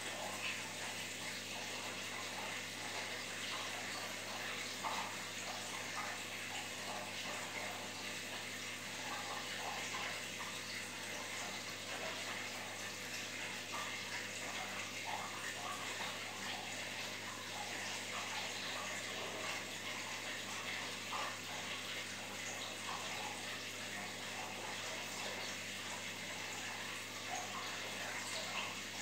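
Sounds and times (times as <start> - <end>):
aquarium water splashing and bubbling: 0.0 - 29.0.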